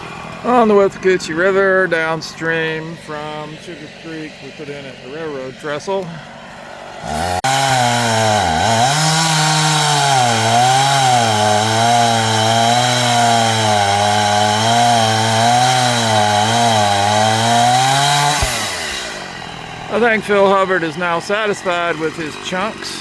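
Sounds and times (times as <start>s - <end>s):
chainsaw cutting log: 0.0s - 23.0s.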